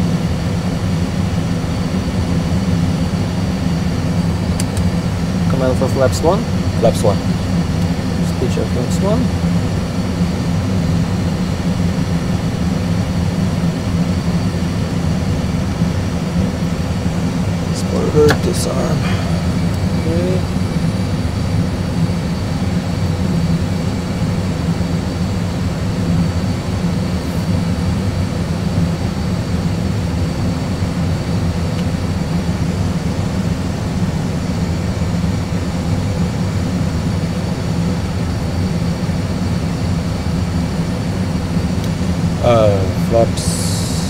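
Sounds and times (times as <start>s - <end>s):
faint steady whine: 0.0s - 44.0s
jet engine and airflow rumble: 0.0s - 44.0s.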